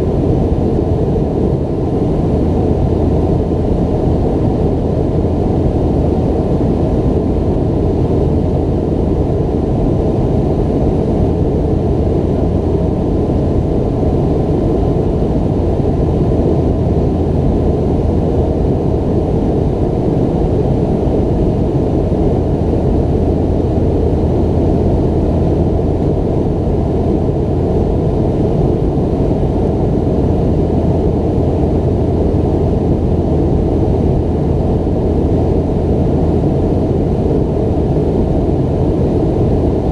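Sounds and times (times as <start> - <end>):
jet engine rumble in cabin: 0.0 - 39.9
low hum: 0.0 - 39.9.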